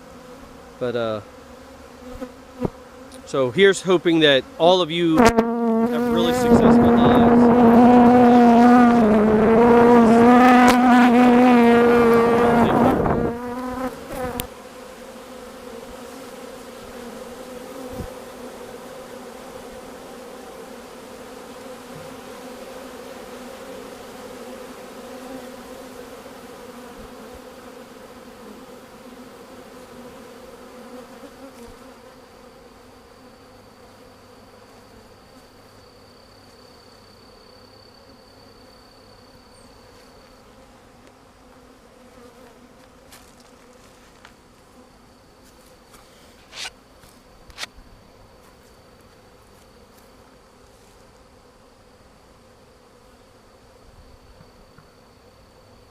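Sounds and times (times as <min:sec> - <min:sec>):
bee buzzing close to microphone: 0:00.0 - 0:55.9
hum of many bees: 0:00.0 - 0:55.9.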